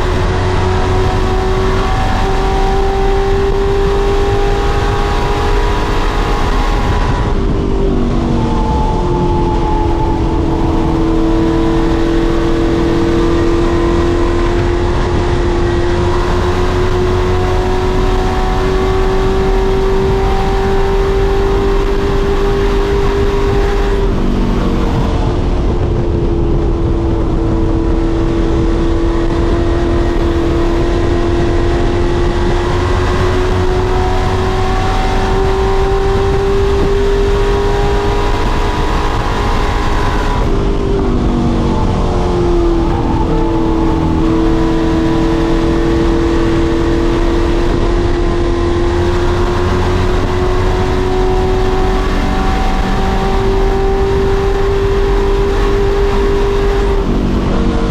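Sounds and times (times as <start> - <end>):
race truck engine revving: 0.0 - 57.9.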